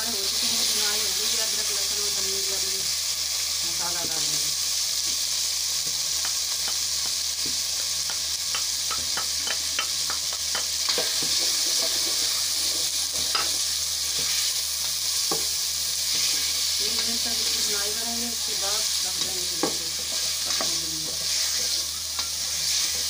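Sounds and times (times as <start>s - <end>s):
liver sizzling in oil: 0.0s - 23.0s.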